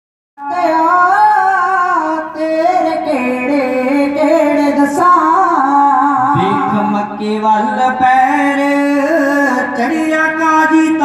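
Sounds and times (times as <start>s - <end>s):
religious singing over loudspeakers: 0.4s - 11.0s.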